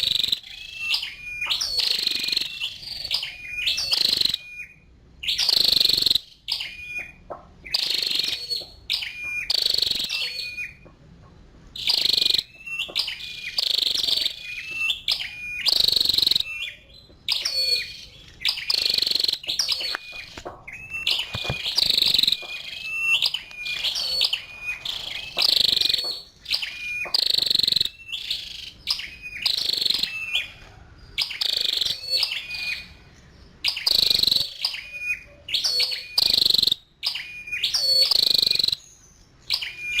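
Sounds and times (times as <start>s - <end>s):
bird chip calls: 0.0s - 10.9s, 11.7s - 40.0s.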